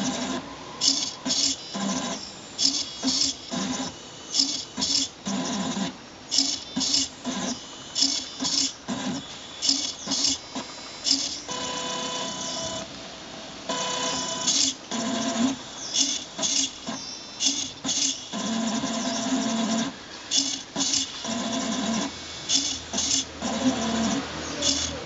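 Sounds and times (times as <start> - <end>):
robotic arm motors whirring: 0.0 - 12.9, 13.7 - 25.0.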